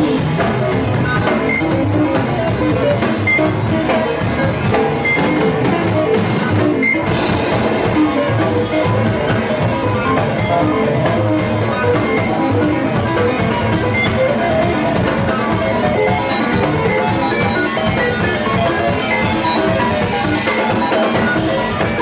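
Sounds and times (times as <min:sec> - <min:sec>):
bass: 0:00.0 - 0:22.0
drum kit: 0:00.0 - 0:22.0
electronic keyboard: 0:00.0 - 0:22.0.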